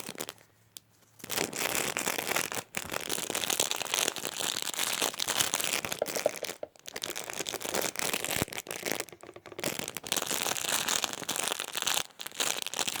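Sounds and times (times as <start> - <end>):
crinkly material crumpled: 0.0 - 5.7, 6.9 - 13.0.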